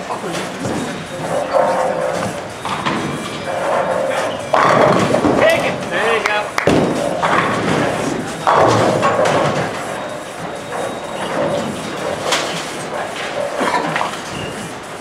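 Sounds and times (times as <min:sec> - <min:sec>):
bowling balls and pins clattering: 0:00.0 - 0:15.0.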